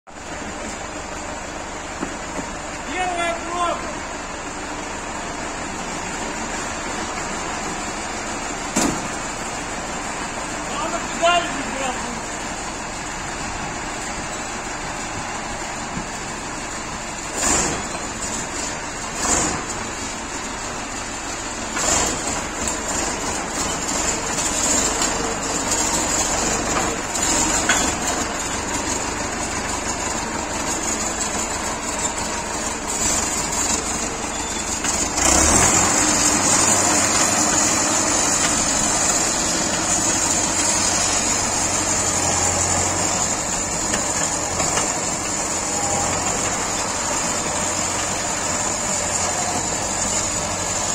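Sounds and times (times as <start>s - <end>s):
tractor diesel engine running: 0.1s - 50.9s.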